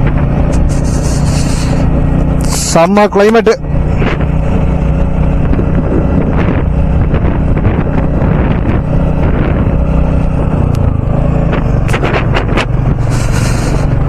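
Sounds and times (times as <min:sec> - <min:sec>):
wind buffeting microphone: 0:00.0 - 0:02.5, 0:03.7 - 0:14.0
motorcycle engine running: 0:00.0 - 0:14.0.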